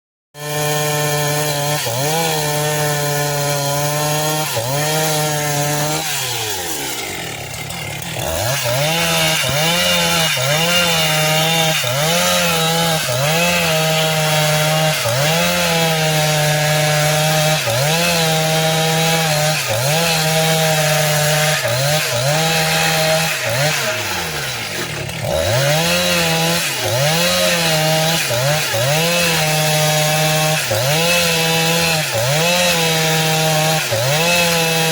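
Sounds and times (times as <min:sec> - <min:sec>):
chainsaw cutting log: 0:00.4 - 0:34.9.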